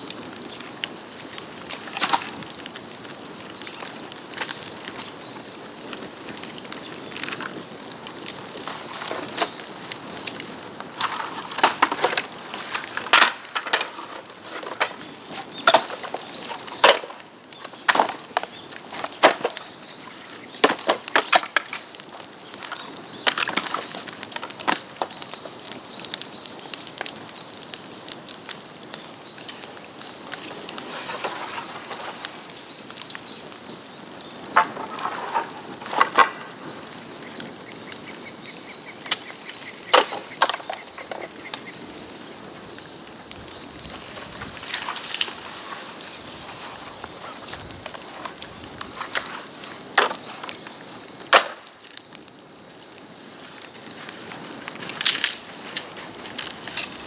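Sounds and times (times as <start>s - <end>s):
bamboo branches crackling: 0.0s - 57.0s
steady hiss: 0.0s - 57.0s.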